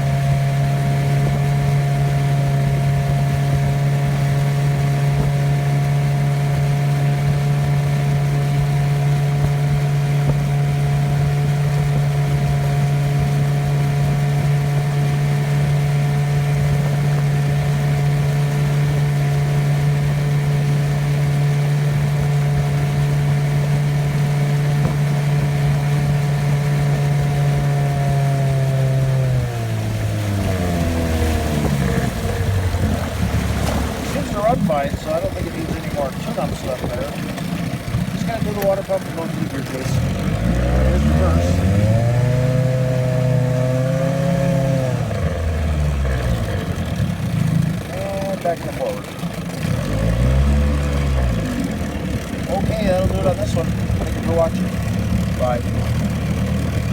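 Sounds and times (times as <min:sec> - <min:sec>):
outboard motor running: 0:00.0 - 0:56.9.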